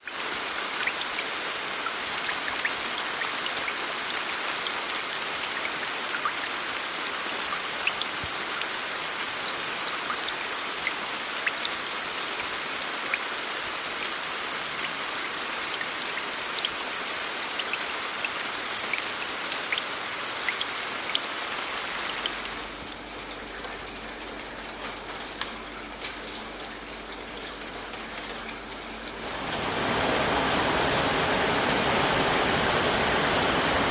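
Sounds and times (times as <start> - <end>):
rain drops pattering: 0.0 - 33.9.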